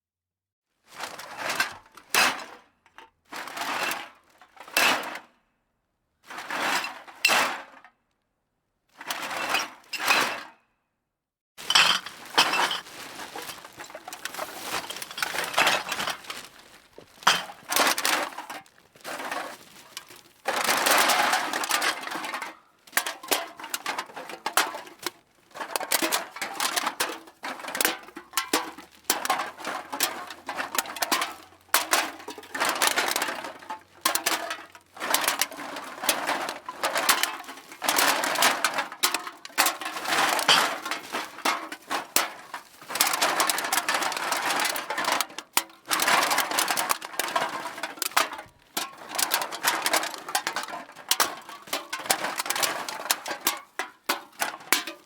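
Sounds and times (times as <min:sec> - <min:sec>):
cans clattering into a bag: 0:00.9 - 0:05.3, 0:11.6 - 0:55.0.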